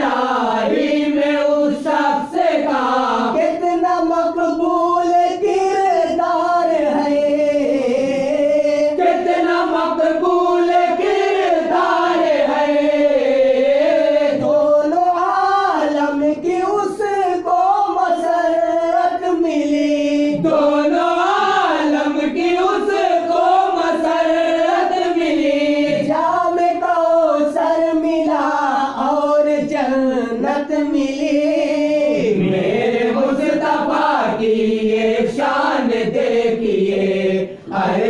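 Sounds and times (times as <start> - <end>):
chorus chanting wordless melody: 0.0 - 38.0.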